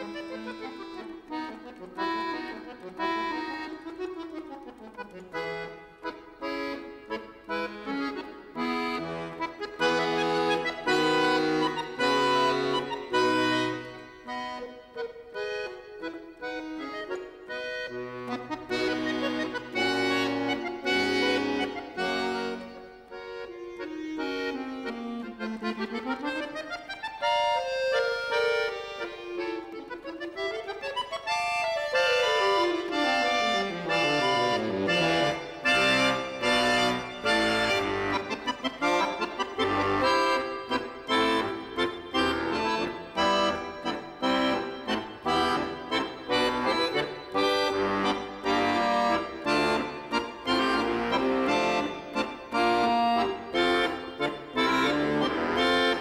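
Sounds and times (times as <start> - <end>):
button accordion playing: 0.0 - 56.0.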